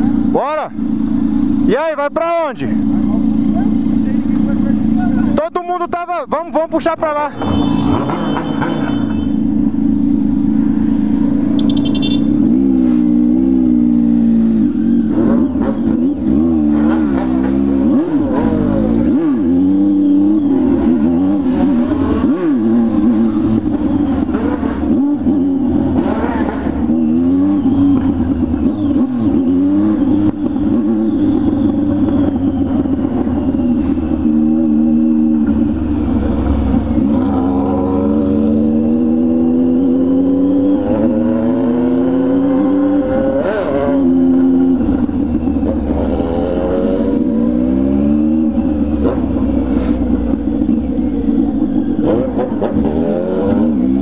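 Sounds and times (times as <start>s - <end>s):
second engine: 0.0s - 54.0s
motorcycle engine accelerating: 7.3s - 54.0s.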